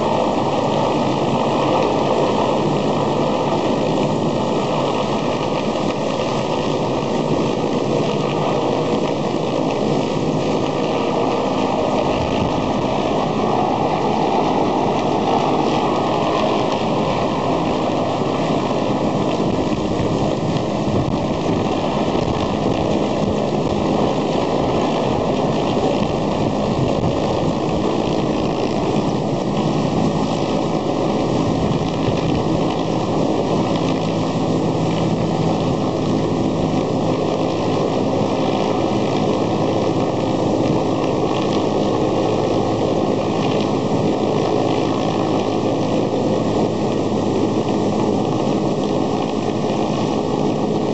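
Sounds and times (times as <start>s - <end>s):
helicopter rotor and turbine: 0.0s - 50.9s.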